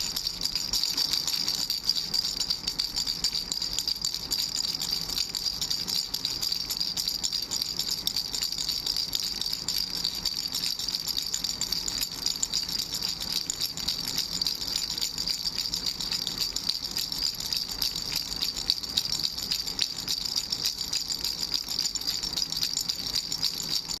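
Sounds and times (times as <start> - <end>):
baby rattle shaken: 0.0 - 24.0.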